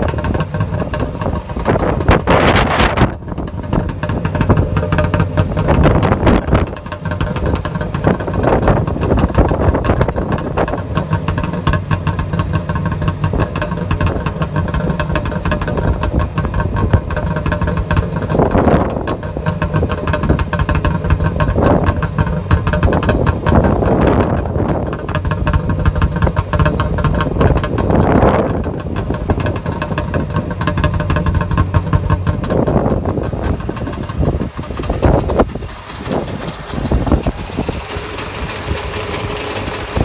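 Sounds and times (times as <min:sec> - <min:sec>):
two-stroke engine idling: 0:00.0 - 0:40.0.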